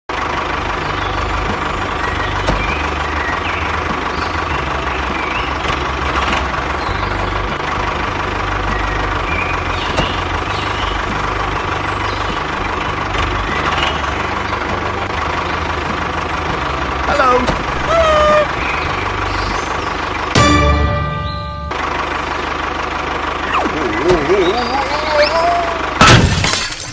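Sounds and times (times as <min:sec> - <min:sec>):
truck engine idling: 0:00.1 - 0:26.9.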